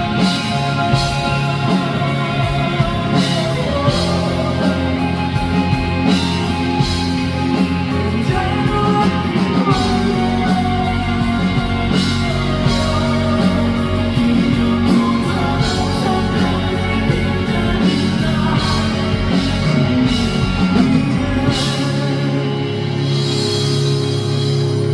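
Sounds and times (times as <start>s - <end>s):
person singing: 0.0s - 23.9s
electric guitar: 0.0s - 24.9s
live rock band: 0.0s - 24.9s.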